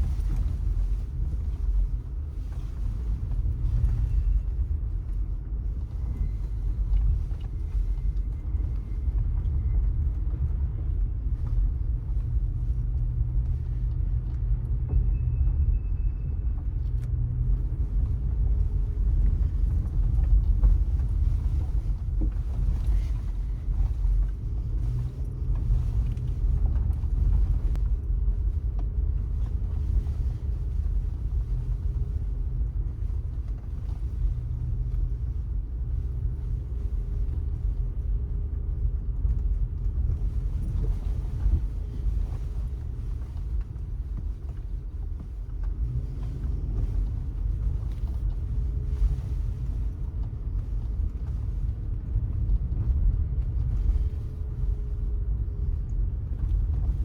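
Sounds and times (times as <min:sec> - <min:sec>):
car engine and road rumble: 0:00.0 - 0:57.0
faint engine hum: 0:00.0 - 0:57.0.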